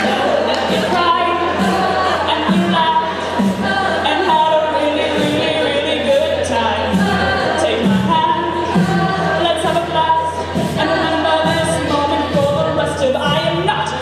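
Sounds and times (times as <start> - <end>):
a cappella group singing chords: 0.0 - 14.0
sung bass line: 0.0 - 14.0
vocal percussion beat: 0.0 - 14.0.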